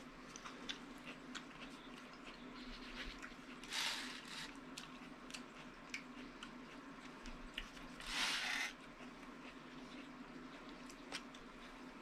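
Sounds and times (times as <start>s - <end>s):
chewing mouth sounds: 0.2s - 3.8s, 4.5s - 11.9s.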